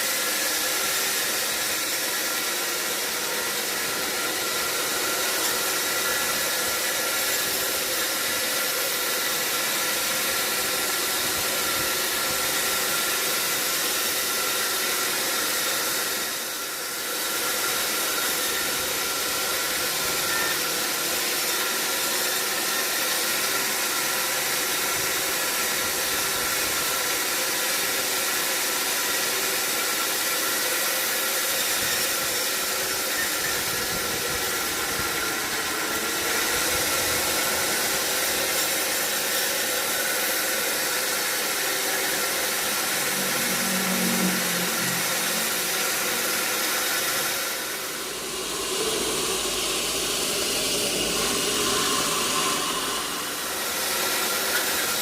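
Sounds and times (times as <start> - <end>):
sawmill machinery hum with hiss: 0.0 - 55.0.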